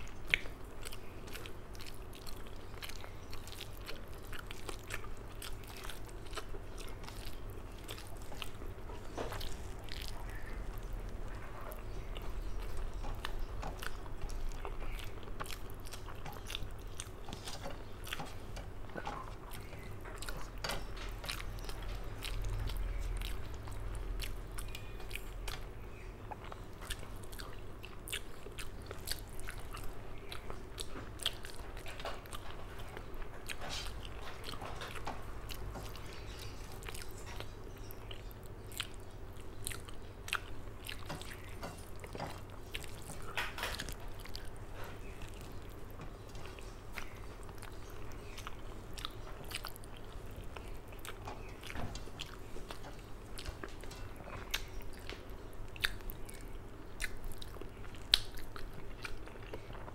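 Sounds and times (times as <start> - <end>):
close chewing: 0.0 - 59.9.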